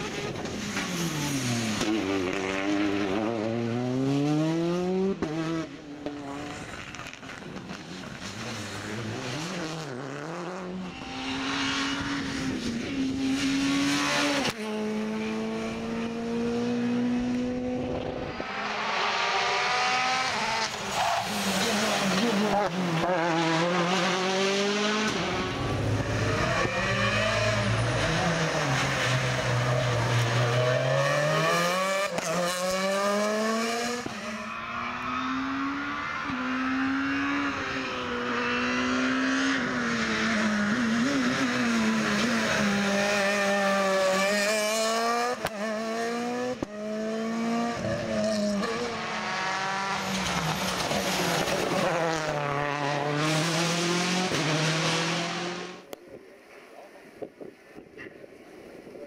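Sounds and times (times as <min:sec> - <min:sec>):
rally car engines at full throttle: 0:00.0 - 0:59.0.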